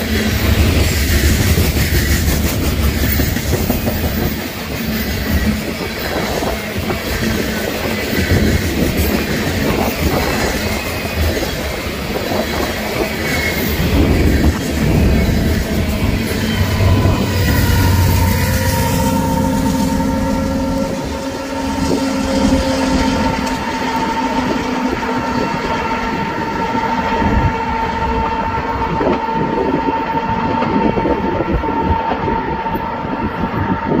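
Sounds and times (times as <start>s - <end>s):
freight train wheels clattering: 0.0s - 27.6s
high-pitched squeal: 0.0s - 32.6s.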